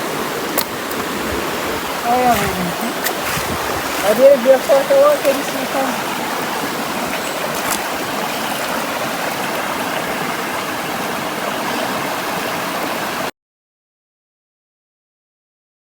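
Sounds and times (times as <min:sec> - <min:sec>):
river water flowing over rocks: 0:00.0 - 0:13.3.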